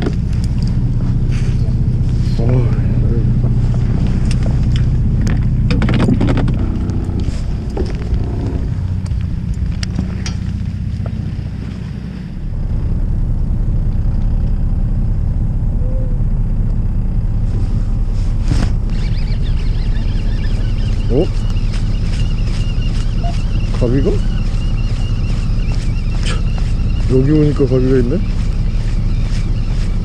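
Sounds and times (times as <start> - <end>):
boat engine humming: 0.0 - 30.0.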